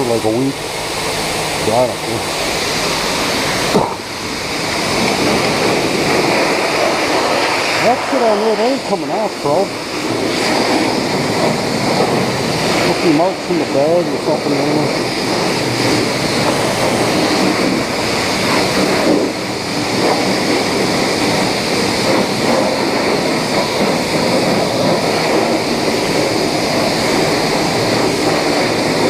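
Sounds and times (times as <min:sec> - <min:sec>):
loud steady rushing noise: 0:00.0 - 0:29.0.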